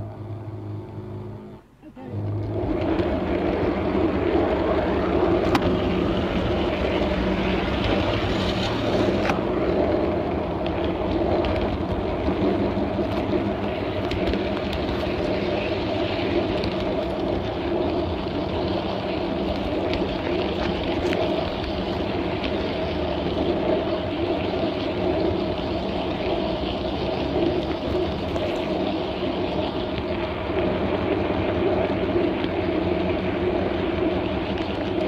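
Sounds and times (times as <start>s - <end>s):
model train mechanical hum: 0.0s - 35.0s.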